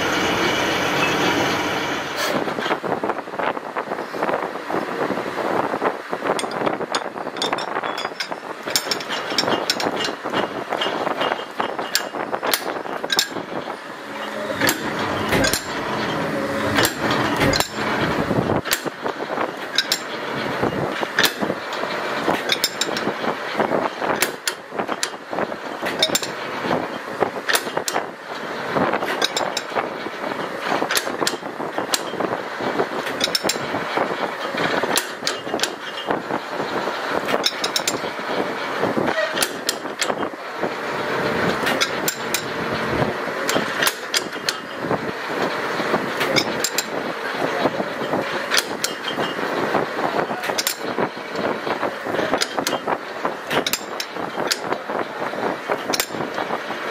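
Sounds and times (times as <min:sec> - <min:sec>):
metal lathe running: 0:00.0 - 0:02.8, 0:06.0 - 0:56.9
deep machine hum: 0:00.0 - 0:03.8, 0:04.5 - 0:56.9
metallic clatter and knocks: 0:06.3 - 0:40.4, 0:41.1 - 0:56.9.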